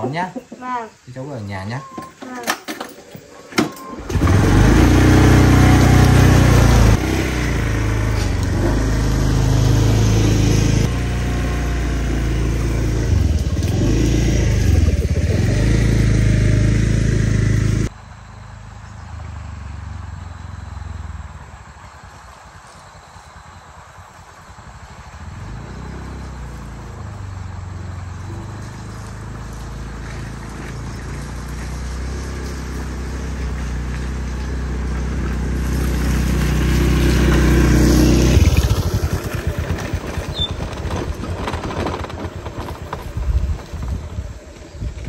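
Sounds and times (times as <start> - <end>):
motorbike engine approaching: 3.9 - 45.0.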